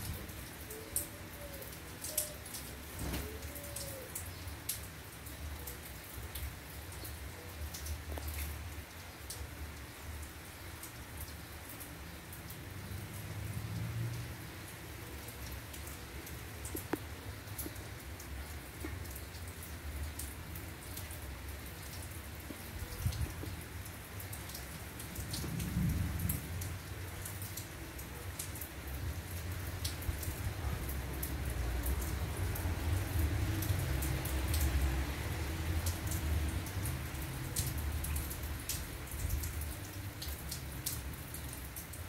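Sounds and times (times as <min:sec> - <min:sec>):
raindrops ticking on hard surfaces: 0:00.0 - 0:42.0.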